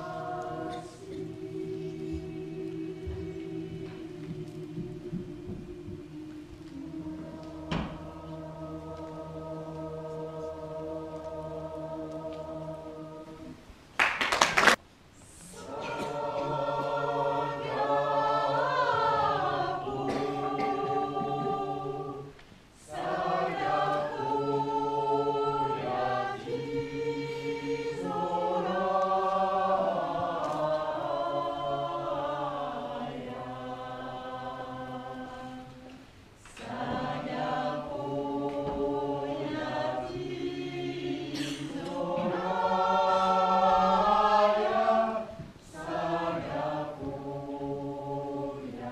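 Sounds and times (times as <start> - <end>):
choir singing a cappella: 0.0 - 13.9, 15.2 - 48.9.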